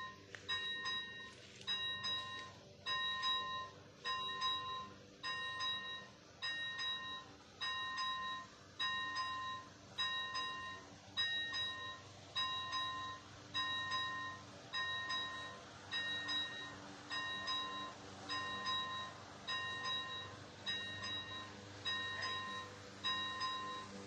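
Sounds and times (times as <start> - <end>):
level crossing warning bell dinging: 0.0 - 24.0.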